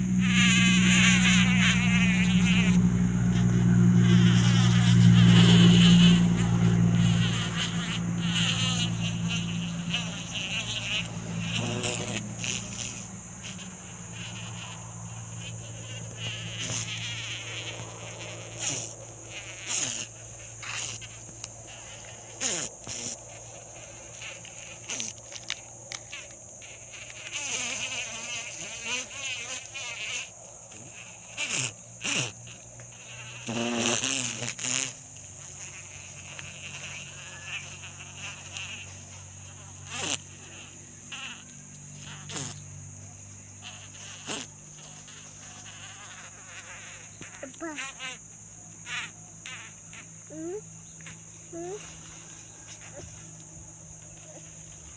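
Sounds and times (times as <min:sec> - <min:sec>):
high-pitched insect drone: 0:00.0 - 0:54.9
insect wings buzzing up close: 0:00.0 - 0:54.9.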